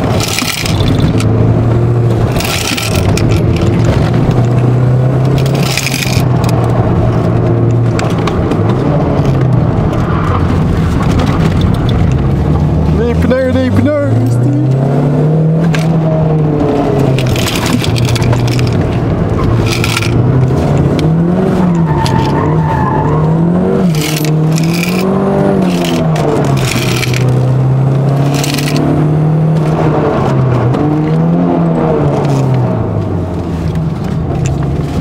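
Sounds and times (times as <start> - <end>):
car engine under hard driving: 0.0 - 35.0.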